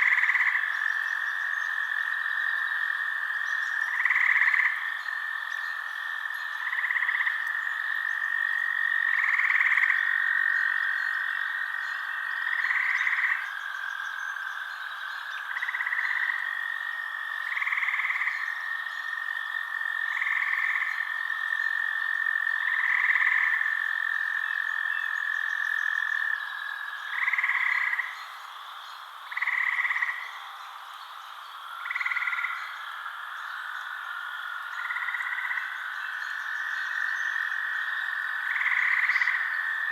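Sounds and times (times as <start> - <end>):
loud frog calls: 0.0 - 39.9.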